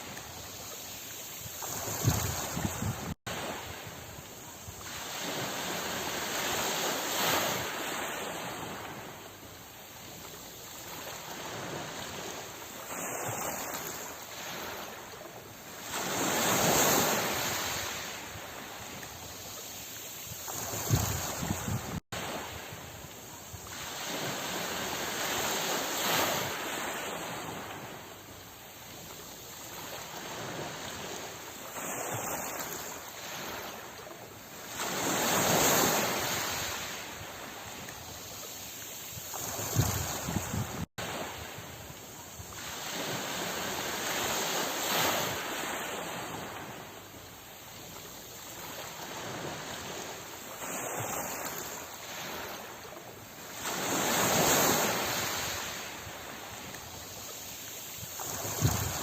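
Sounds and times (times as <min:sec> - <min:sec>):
waves washing in: 0:00.0 - 0:59.0.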